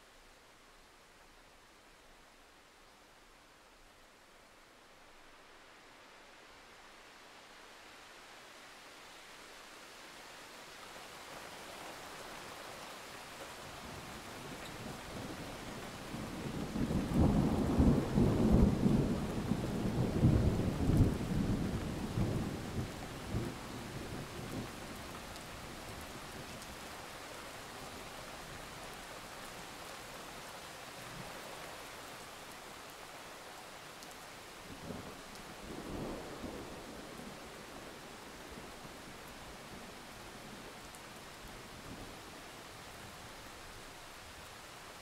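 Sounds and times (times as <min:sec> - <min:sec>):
steady rain: 0:00.0 - 0:45.0.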